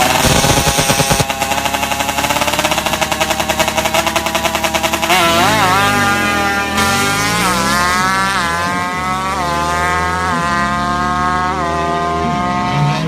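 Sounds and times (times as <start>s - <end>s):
motorcycle engine at full throttle: 0.0s - 13.0s.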